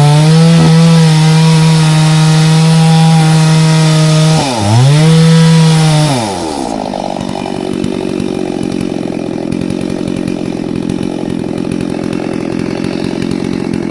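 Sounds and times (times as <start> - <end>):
chainsaw revving then idling: 0.0 - 13.9.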